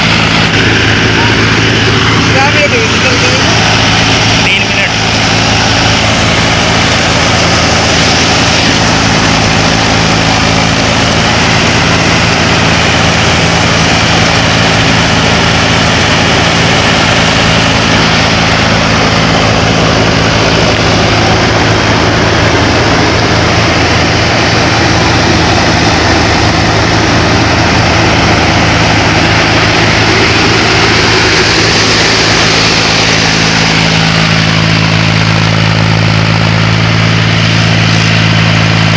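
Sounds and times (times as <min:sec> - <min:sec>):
grain thresher noise: 0:00.0 - 0:38.9
tractor diesel engine running: 0:00.0 - 0:38.9.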